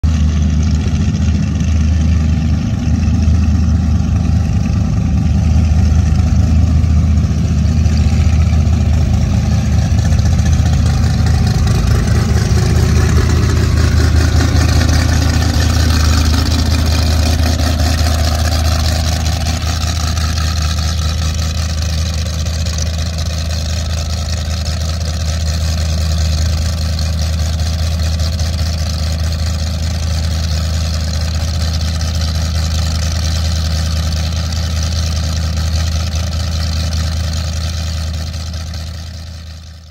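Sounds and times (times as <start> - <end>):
boat engines idling: 0.0 - 39.9.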